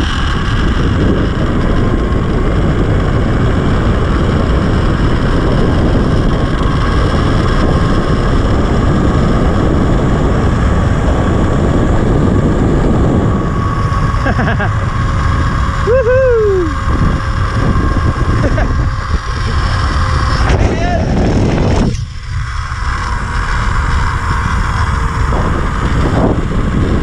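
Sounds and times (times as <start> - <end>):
pulley whine: 0.0 - 27.0
wind rushing over microphone: 0.0 - 27.0.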